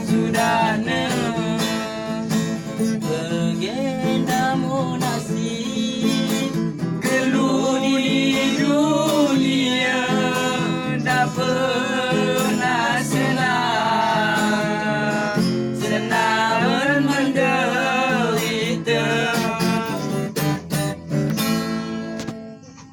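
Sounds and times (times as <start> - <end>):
person singing with vibrato: 0.0 - 20.9
strummed acoustic guitar: 0.0 - 22.9.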